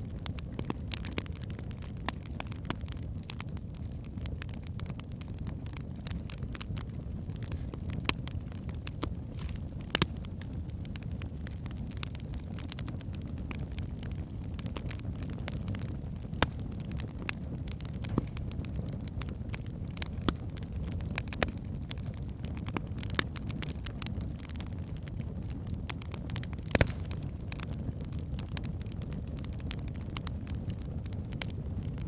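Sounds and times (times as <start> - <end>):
wood fire crackling: 0.0 - 32.0
logs popping: 0.5 - 3.4, 5.7 - 25.2, 25.9 - 30.3.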